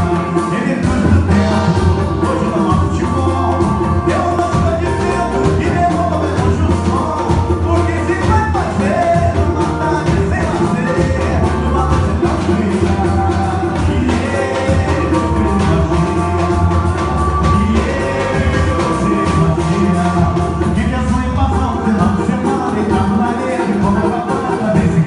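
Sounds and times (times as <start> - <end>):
live band playing: 0.0 - 25.0
person singing: 0.0 - 25.0.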